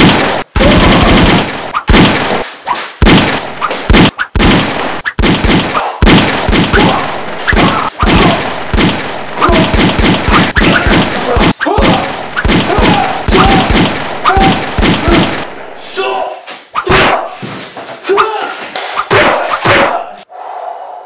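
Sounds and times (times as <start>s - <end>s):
gunshots: 0.0s - 15.7s, 19.0s - 20.2s.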